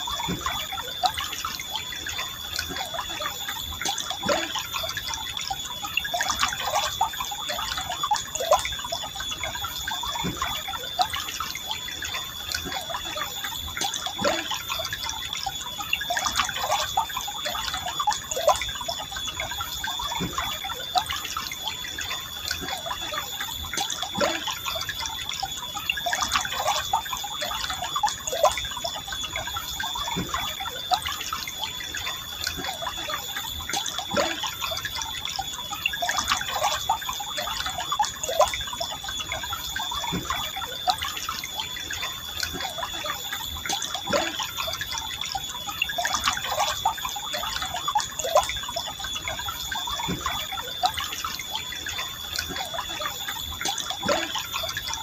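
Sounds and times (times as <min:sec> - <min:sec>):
river water gurgling: 0:00.0 - 0:55.0.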